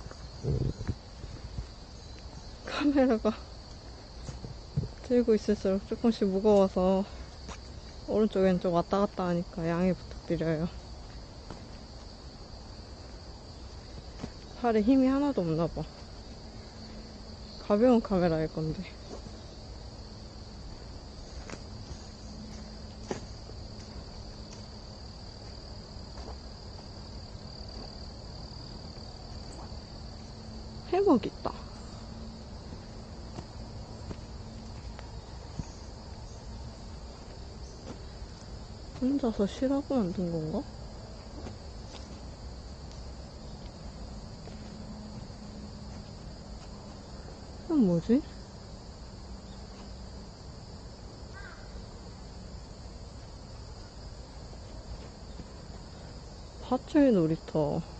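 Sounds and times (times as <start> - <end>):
high-pitched insect drone: 7.0 - 57.9.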